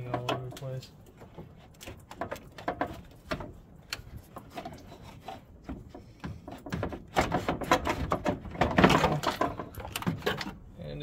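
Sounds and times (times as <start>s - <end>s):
radiator knocking and scraping: 0.0s - 11.0s.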